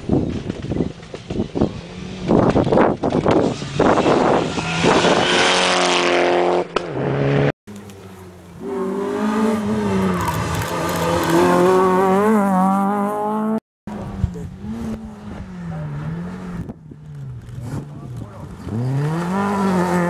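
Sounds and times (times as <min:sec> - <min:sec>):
rally car engine revving: 0:00.5 - 0:20.0.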